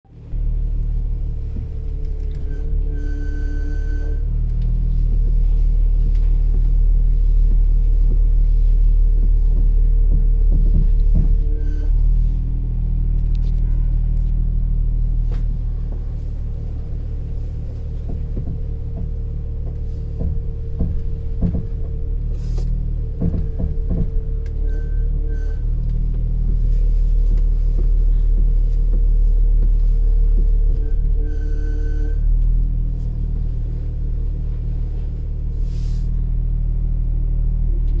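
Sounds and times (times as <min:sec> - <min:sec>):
steering clunks: 0:00.1 - 0:38.0
van engine idling: 0:00.1 - 0:38.0.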